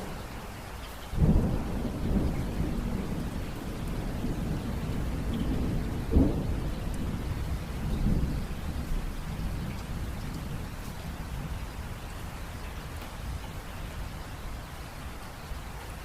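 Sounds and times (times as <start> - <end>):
steady rain falling: 0.0 - 16.0
thunder rumbling: 1.1 - 16.0.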